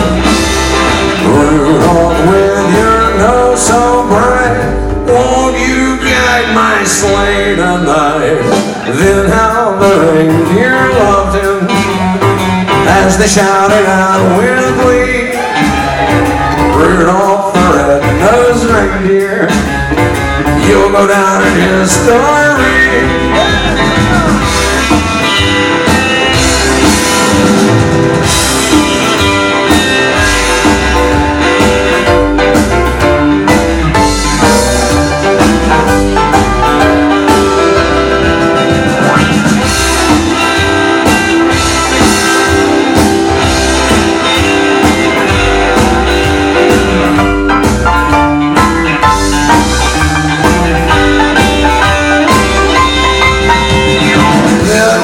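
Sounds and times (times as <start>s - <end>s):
drum kit: 0.0s - 55.0s
electric guitar lead: 0.0s - 55.0s
upright bass: 0.0s - 55.0s.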